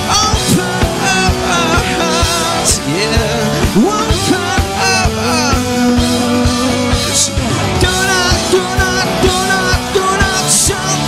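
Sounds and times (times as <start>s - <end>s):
drum beats: 0.0s - 11.0s
live rock band playing: 0.0s - 11.0s
person singing: 0.0s - 11.0s.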